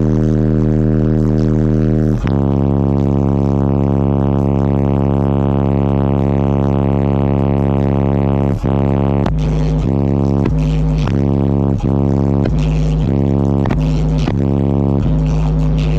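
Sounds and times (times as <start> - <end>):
bass-heavy music from subwoofer: 0.0 - 15.9.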